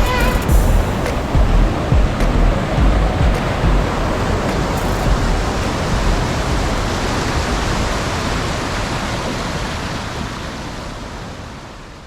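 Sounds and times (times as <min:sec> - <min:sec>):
waterfall rushing: 0:00.0 - 0:11.9.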